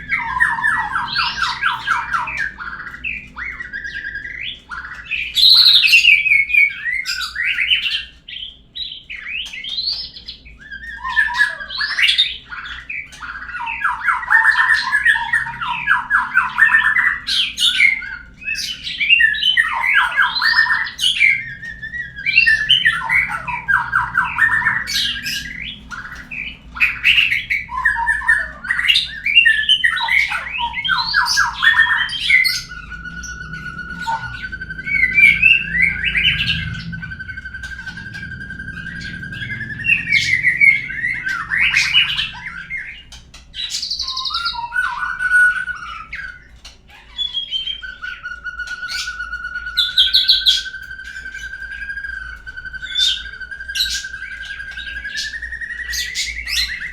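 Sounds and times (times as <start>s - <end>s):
bird rattling trills: 0.0s - 56.9s
bird whistling song: 0.0s - 56.9s.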